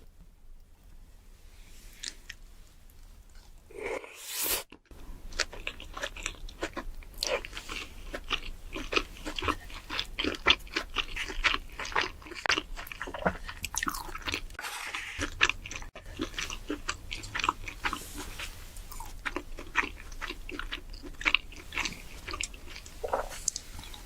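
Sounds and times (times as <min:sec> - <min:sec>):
crunching and chewing food: 0:04.7 - 0:24.0.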